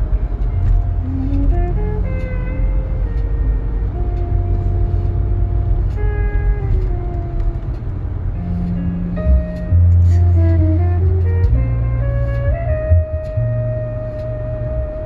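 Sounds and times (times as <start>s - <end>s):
car engine and tyres rumble: 0.0s - 15.0s
music with slow held notes: 0.0s - 15.0s.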